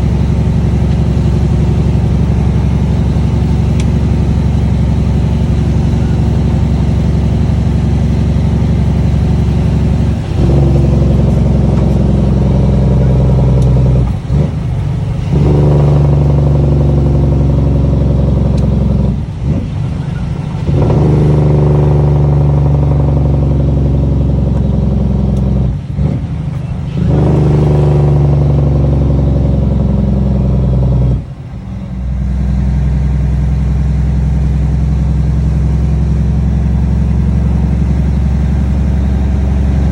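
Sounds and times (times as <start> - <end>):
loud diesel engine running: 0.0 - 39.9.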